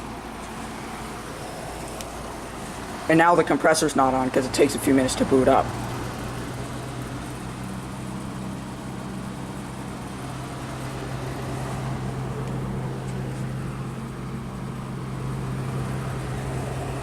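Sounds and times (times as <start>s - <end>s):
air conditioner fan running: 0.0s - 17.0s.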